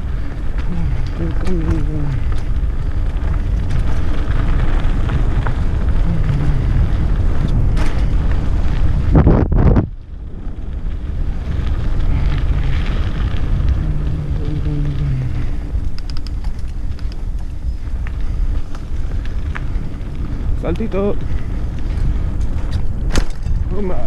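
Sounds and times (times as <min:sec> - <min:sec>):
bike rumbling and rattling: 0:00.0 - 0:24.0
wind buffeting microphone: 0:00.0 - 0:24.0.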